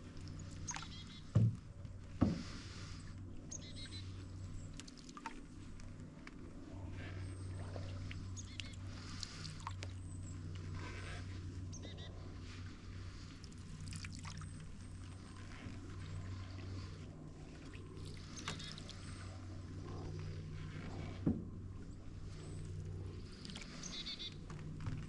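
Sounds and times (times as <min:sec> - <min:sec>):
paddle dipping in water: 0:00.0 - 0:03.2, 0:03.8 - 0:06.1, 0:06.8 - 0:11.6, 0:12.4 - 0:25.0
low steady hum: 0:00.0 - 0:25.0.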